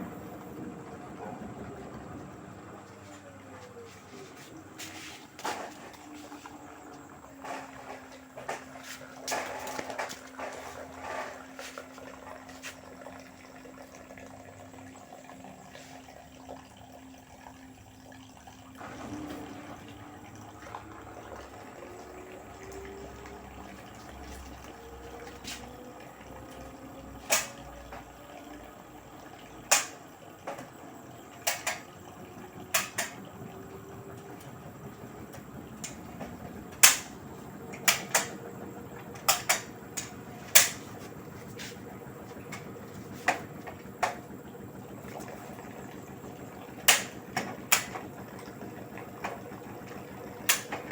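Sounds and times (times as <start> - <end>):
washing machine motor whine: 0.0 - 50.9
water noise: 0.0 - 50.9.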